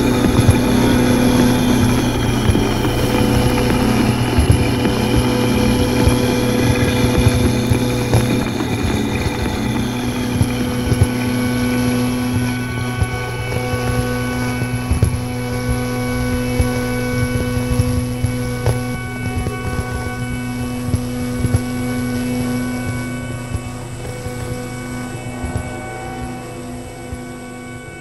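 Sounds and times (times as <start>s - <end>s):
electronic drone tones: 0.0s - 28.0s
low fluttering rumble: 0.0s - 28.0s
wavering high tone: 0.0s - 28.0s.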